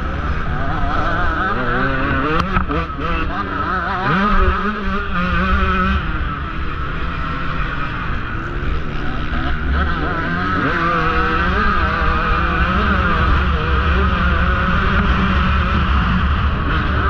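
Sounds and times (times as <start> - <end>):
two-stroke engine revving hard: 0.0 - 17.0.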